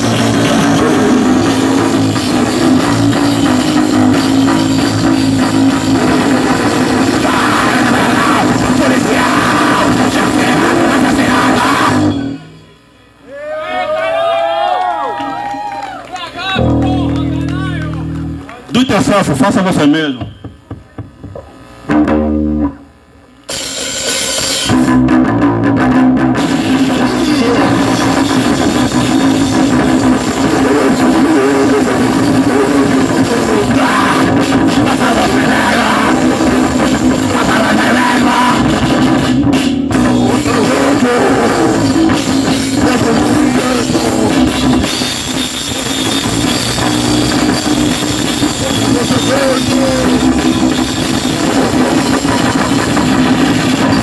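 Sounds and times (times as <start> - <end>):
distorted noise rock band: 0.0 - 54.0.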